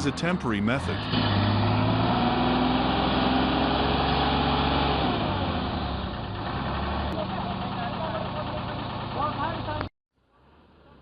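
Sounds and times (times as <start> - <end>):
vehicle engine revving: 0.0 - 9.9.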